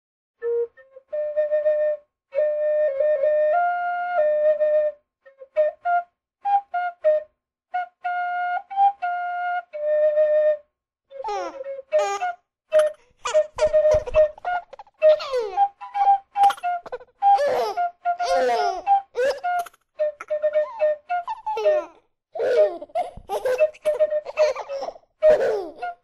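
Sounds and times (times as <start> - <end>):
flute-like tune: 0.4 - 26.0.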